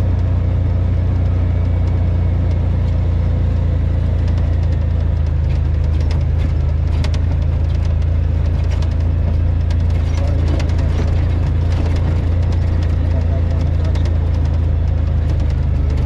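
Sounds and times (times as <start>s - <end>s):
utility vehicle engine droning: 0.0s - 16.0s.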